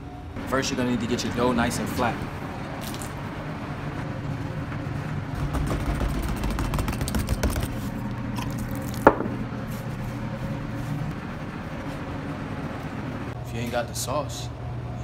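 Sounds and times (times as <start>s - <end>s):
low hum: 0.0s - 13.5s.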